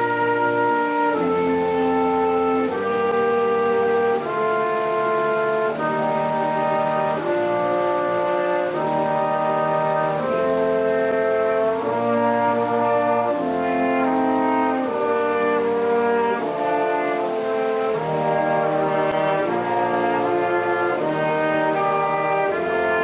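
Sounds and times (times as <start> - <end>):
brass quintet playing chords: 0.0 - 23.0.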